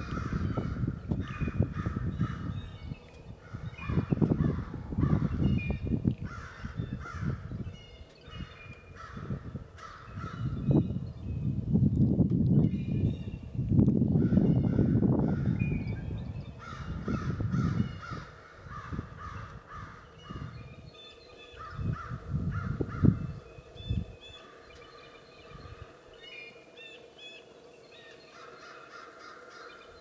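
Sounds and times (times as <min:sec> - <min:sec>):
ravens calling: 0:00.0 - 0:10.6, 0:14.2 - 0:30.0.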